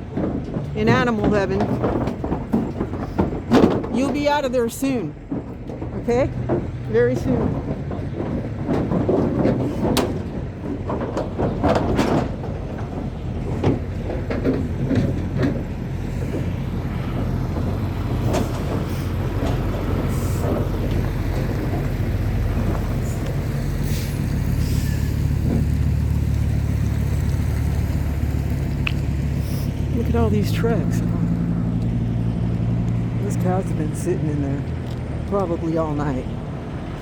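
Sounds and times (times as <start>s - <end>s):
knocks and clatter: 0.0s - 37.0s.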